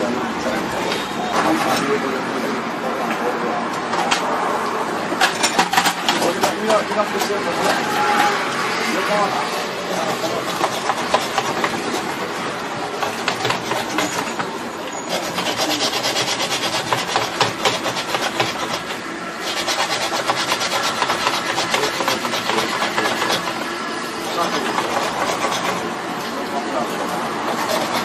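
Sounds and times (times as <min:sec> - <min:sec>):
wire rubbing and scraping: 0:05.1 - 0:28.0.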